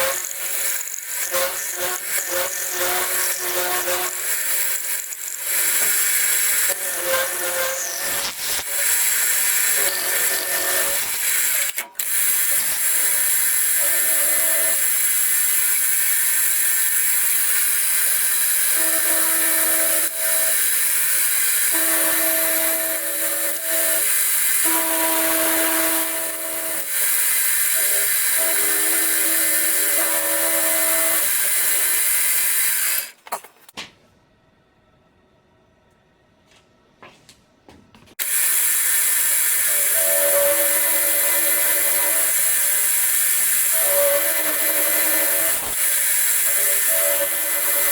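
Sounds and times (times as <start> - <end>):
milling machine cutting metal: 0.0 - 33.2, 38.2 - 47.9.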